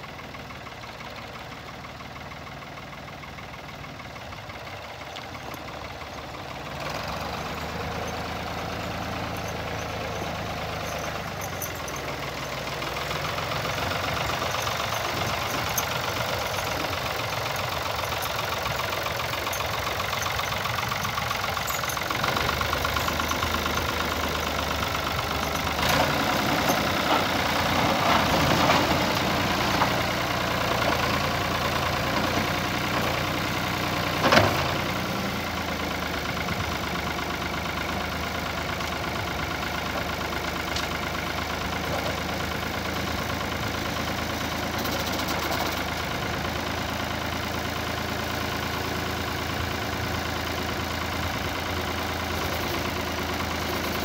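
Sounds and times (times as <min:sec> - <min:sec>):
tractor engine working: 0:00.0 - 0:54.0.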